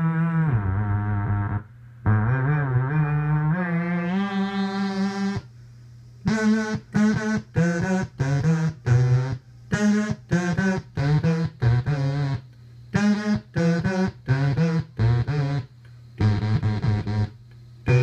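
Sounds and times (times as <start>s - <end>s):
synthesizer stepped notes: 0.0s - 5.5s, 6.3s - 18.0s.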